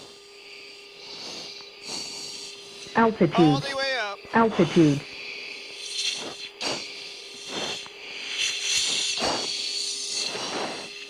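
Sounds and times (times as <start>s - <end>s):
hissing breaths in oxygen mask: 0.0s - 3.0s, 4.5s - 11.0s
steady electrical hum: 0.0s - 11.0s.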